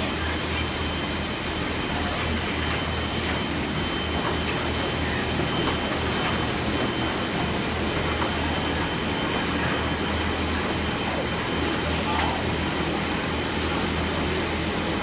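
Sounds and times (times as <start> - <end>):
printing machinery rushing hum: 0.0 - 15.0.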